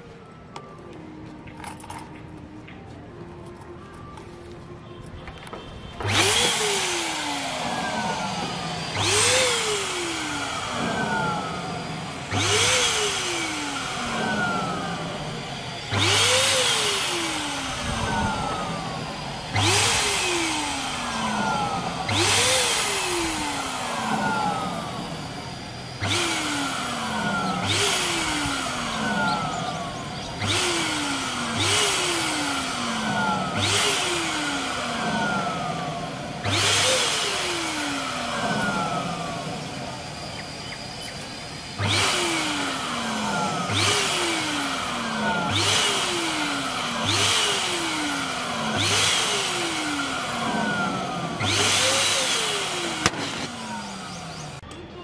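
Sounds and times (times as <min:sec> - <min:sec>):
electric balloon pump motor: 0:03.5 - 0:54.8.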